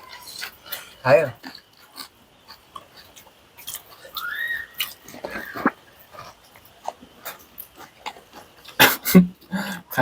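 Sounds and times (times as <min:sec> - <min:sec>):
crunchy chewing: 0:00.0 - 0:09.5.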